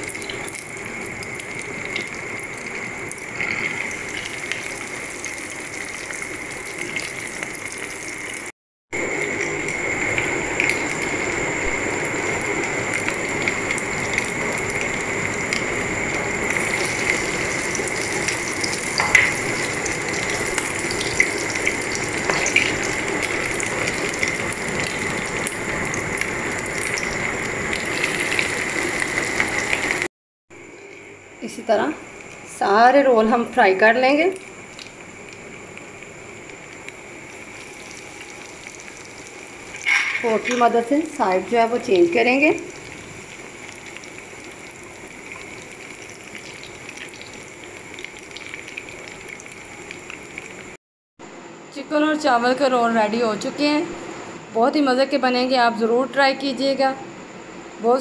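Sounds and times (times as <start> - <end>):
hot oil sizzling and popping: 0.0 - 50.8.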